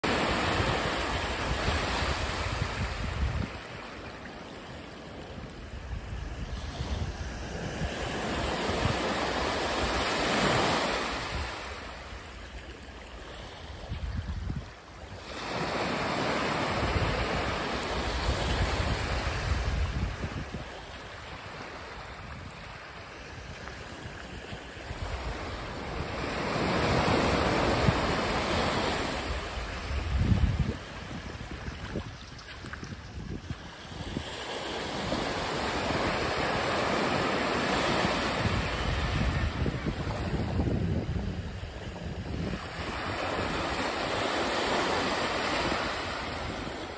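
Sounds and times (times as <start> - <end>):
small waves breaking on beach: 0.0 - 46.9
wind buffeting microphone: 0.0 - 46.9.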